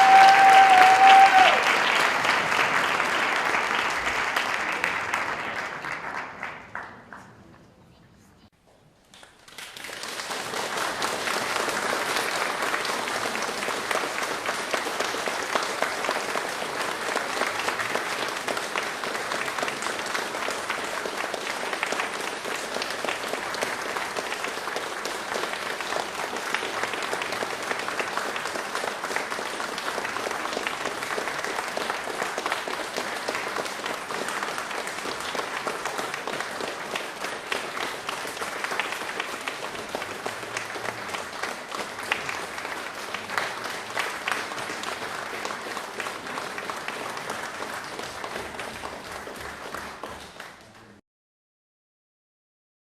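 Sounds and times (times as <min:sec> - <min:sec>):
crowd applauding: 0:00.0 - 0:07.6, 0:09.1 - 0:51.0.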